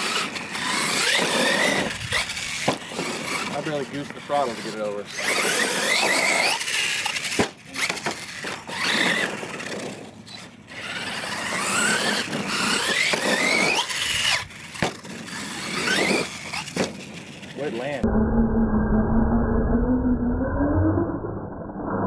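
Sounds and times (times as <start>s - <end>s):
tyres scrabbling on loose dirt: 0.0s - 18.0s
electric motor whining: 0.0s - 18.1s.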